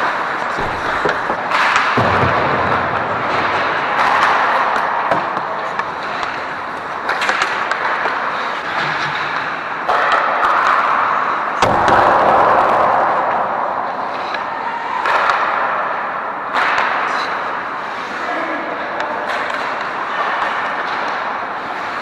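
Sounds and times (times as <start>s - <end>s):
ice rink noise: 0.0s - 22.0s
skate scraping bursts: 0.0s - 22.0s.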